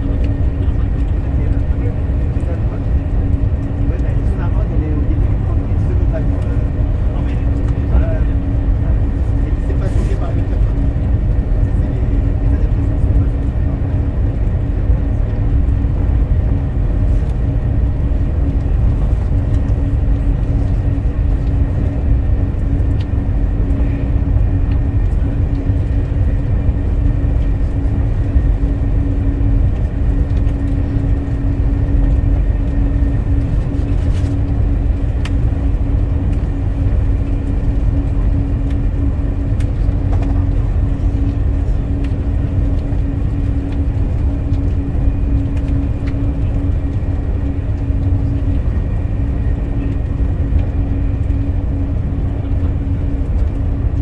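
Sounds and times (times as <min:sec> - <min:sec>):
constant hum: 0:00.0 - 0:54.0
train running low rumble: 0:00.0 - 0:54.0.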